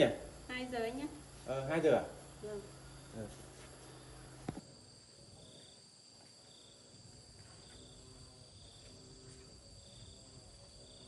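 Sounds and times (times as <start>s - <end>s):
insect chirps: 0.0s - 11.0s
insect chorus: 0.0s - 11.0s.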